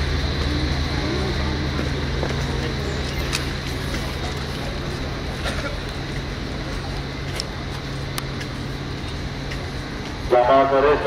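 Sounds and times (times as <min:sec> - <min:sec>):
diesel train idling: 0:00.0 - 0:11.0
faint voices: 0:00.0 - 0:11.0
high whine: 0:00.0 - 0:11.0.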